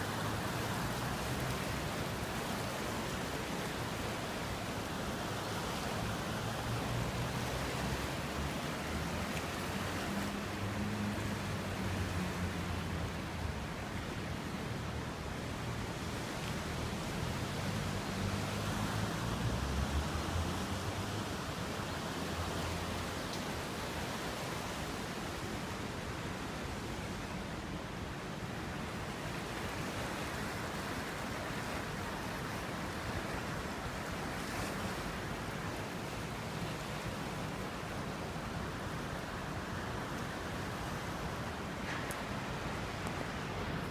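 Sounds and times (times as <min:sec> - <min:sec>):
fast-flowing river water: 0:00.0 - 0:43.9.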